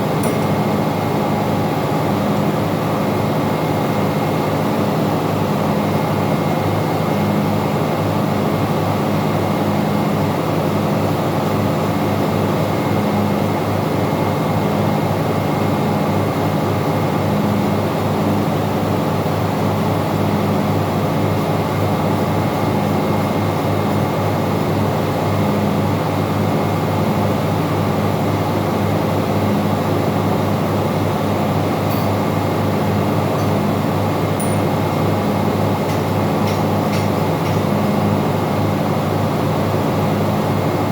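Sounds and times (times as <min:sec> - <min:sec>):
engine room machinery drone: 0:00.0 - 0:40.9.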